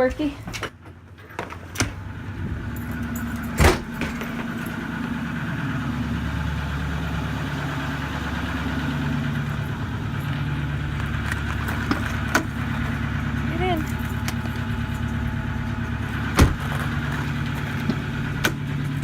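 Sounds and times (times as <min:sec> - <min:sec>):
pickup truck engine idling: 0:01.0 - 0:19.0.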